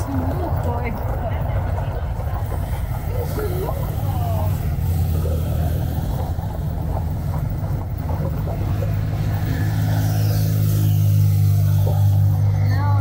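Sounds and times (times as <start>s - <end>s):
engine and road noise drone: 0.0s - 13.0s.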